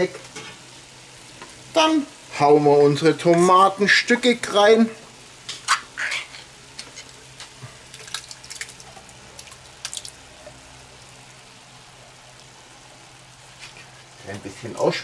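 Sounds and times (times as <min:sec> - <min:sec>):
meat and onions sizzling: 0:00.0 - 0:15.0.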